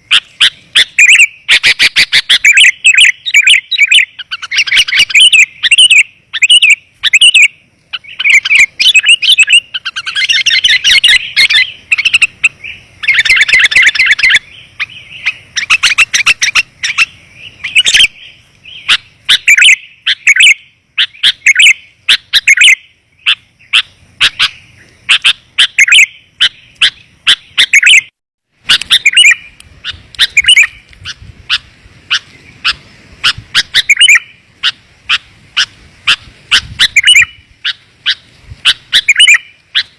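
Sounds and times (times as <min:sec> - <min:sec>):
bulbul chirps and trills: 0:00.0 - 0:39.9.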